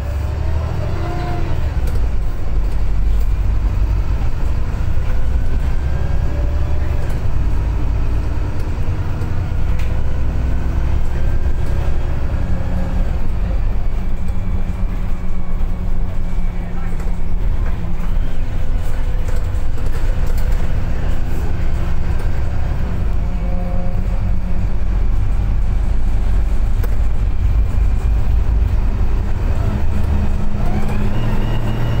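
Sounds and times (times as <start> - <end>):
bus diesel engine droning: 0.0 - 32.0.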